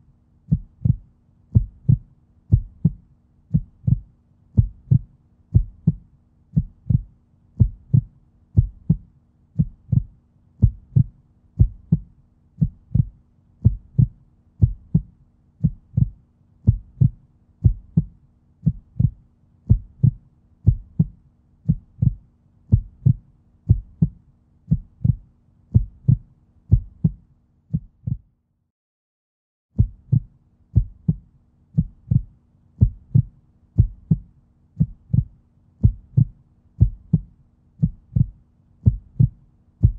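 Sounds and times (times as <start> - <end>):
heartbeat-like low thumps: 0.5 - 28.3, 29.8 - 39.9.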